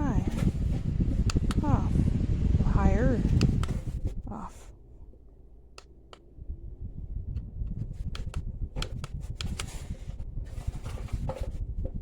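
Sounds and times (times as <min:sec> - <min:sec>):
fan airflow buffeting microphone: 0:00.0 - 0:12.0.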